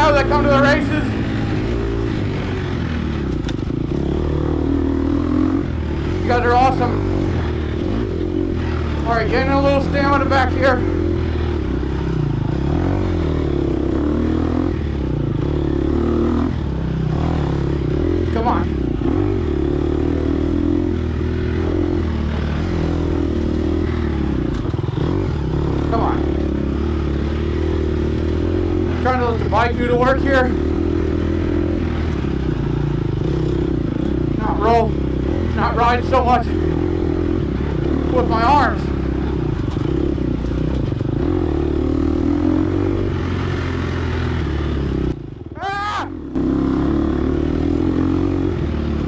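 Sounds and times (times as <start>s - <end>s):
dirt bike engine revving: 0.0s - 49.0s.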